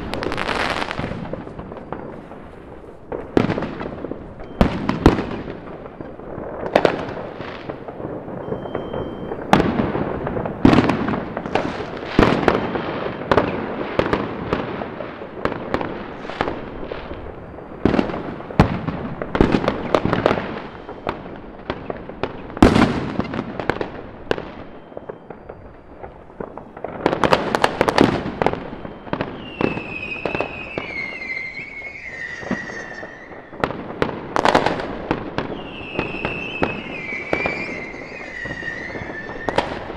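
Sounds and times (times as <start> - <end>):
descending firework whistle: 0.0 - 39.9
distant fireworks crackle and rumble: 0.0 - 39.9
fireworks bangs: 0.0 - 39.9.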